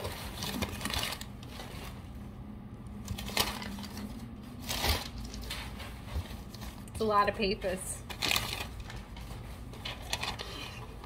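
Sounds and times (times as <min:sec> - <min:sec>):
packing paper rustling: 0:00.0 - 0:02.3, 0:03.0 - 0:11.0.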